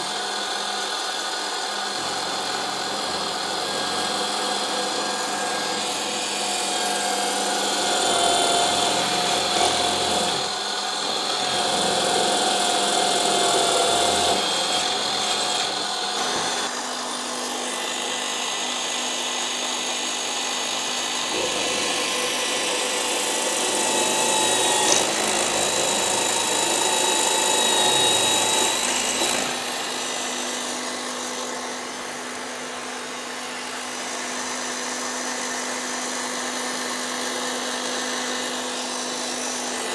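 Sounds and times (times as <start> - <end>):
drill press motor hum: 0.0 - 35.7
drill bit cutting metal: 0.0 - 39.9.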